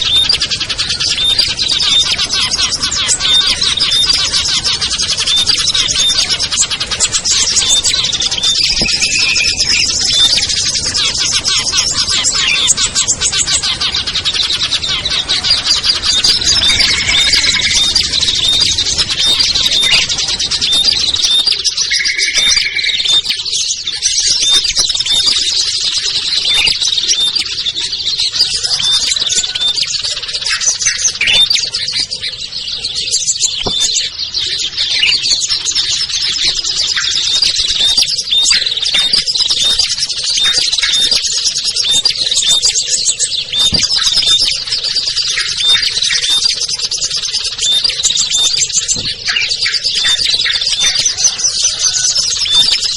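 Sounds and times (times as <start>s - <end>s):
small songbirds chirping and trilling: 0.0s - 52.9s.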